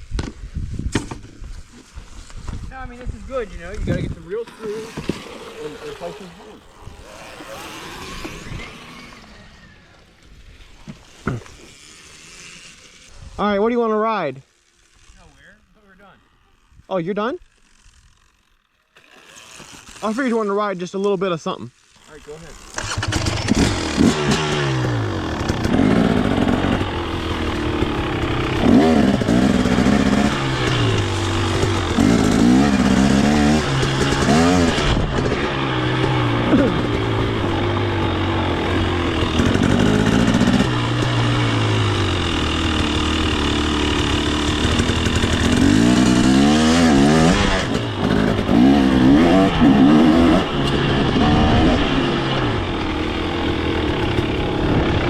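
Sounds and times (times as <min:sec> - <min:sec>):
two-stroke engine revving: 0:03.3 - 0:20.6, 0:21.8 - 0:55.0.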